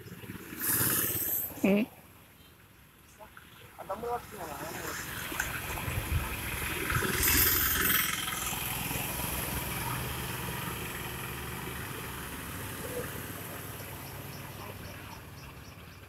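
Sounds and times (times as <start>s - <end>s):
motorcycle engine passing: 0.0s - 1.9s, 4.0s - 16.0s.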